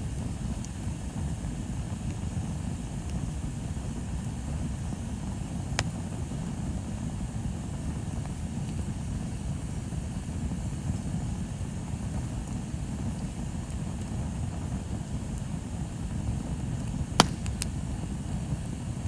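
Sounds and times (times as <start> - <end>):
bonfire burning low rumble: 0.0 - 19.0
fire crackle and pop: 0.1 - 19.0.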